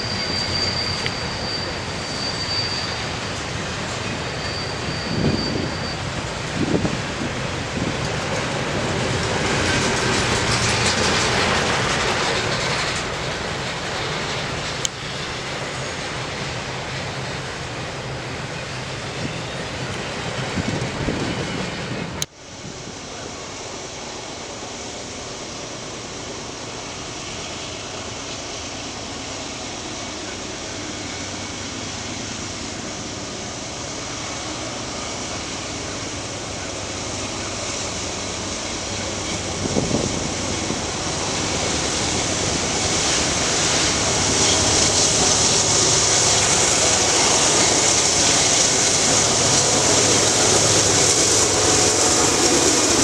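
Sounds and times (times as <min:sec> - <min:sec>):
freight train approaching: 0:00.0 - 0:53.0.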